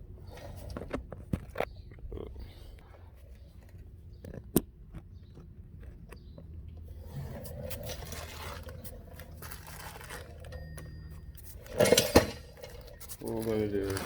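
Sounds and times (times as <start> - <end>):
small clicks and scraping: 0.2 - 14.0.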